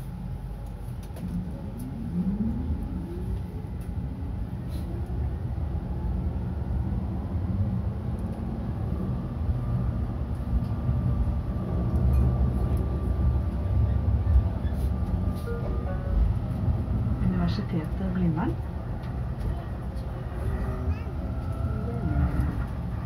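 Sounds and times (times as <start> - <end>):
tram running rumble: 0.0 - 23.0.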